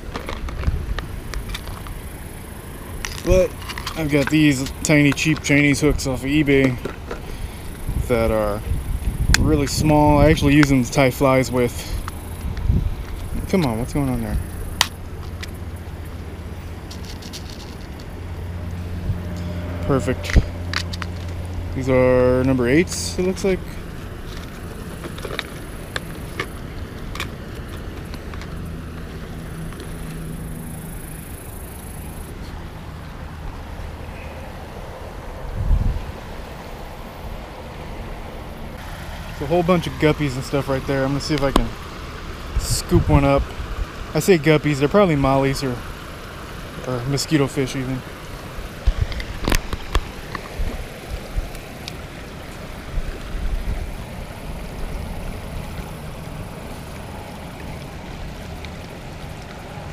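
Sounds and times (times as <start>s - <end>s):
wind rumbling on microphone: 0.0s - 44.2s, 48.1s - 59.9s
creek water trickling over rocks: 0.0s - 59.9s.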